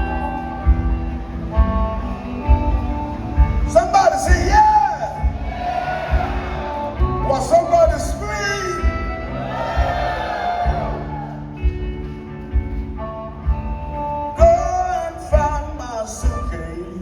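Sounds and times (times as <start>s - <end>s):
electric guitar: 0.0s - 17.0s
steady drum beat: 0.0s - 17.0s.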